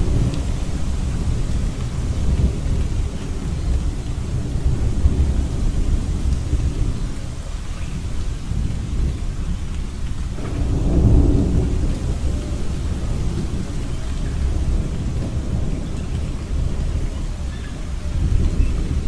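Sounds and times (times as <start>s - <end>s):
low rumble of thunder: 0.0s - 19.0s
steady rain hissing: 0.0s - 19.0s.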